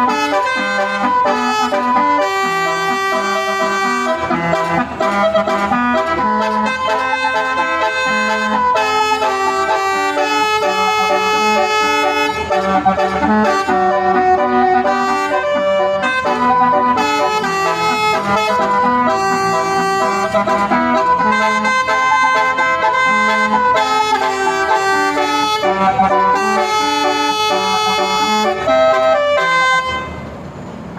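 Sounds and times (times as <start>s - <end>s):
musical bus air horn: 0.0s - 30.9s.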